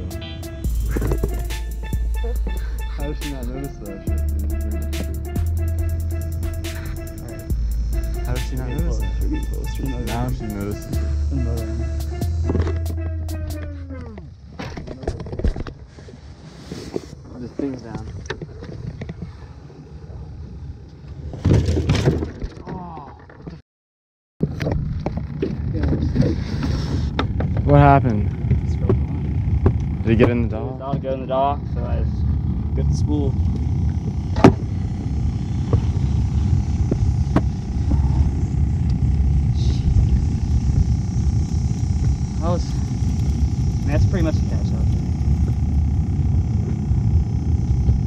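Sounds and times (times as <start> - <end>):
boat motor running: 0.0 - 20.3, 24.4 - 48.0.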